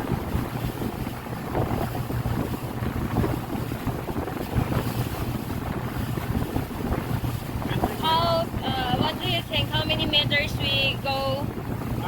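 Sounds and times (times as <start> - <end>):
boat motor humming: 0.0 - 12.0
wind buffeting microphone: 0.0 - 12.0.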